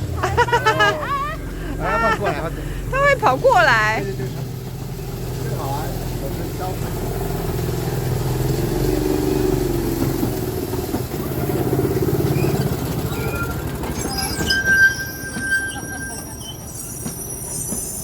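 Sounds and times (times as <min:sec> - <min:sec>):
rail car rumbling on track: 0:00.0 - 0:18.0
wheels squealing: 0:00.0 - 0:18.0.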